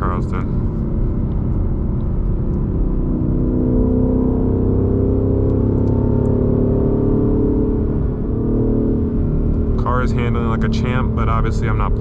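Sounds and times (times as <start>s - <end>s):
car engine drone from cabin: 0.0s - 12.0s.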